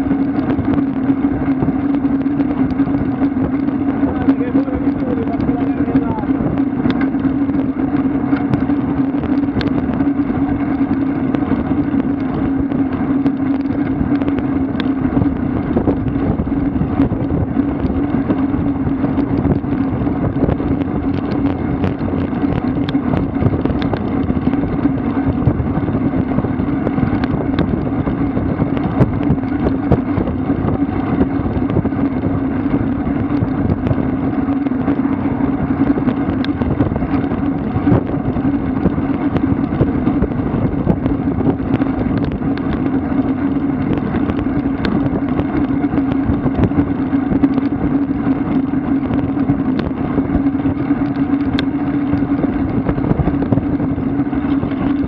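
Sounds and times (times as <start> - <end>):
constant low hum: 0.0 - 55.0
wind rushing over microphone: 0.0 - 55.0.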